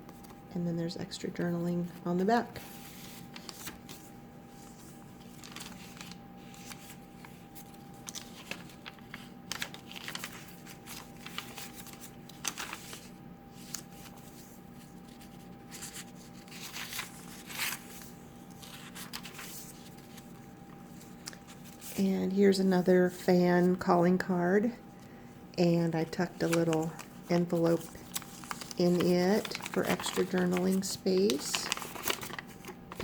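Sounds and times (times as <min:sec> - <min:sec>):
paper pages rustling and flicking: 0:01.9 - 0:22.0, 0:26.0 - 0:33.0.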